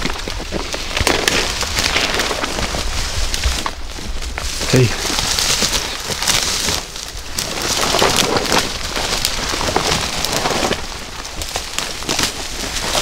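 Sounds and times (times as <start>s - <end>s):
twigs snapping: 0.0s - 13.0s
walking through dry undergrowth: 0.0s - 13.0s.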